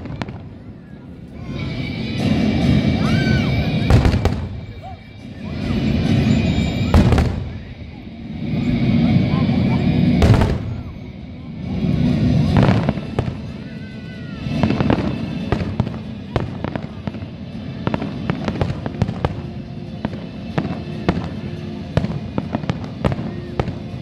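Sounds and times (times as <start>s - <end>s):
fireworks booming: 0.0s - 24.0s
fireworks cracking and popping: 0.0s - 24.0s.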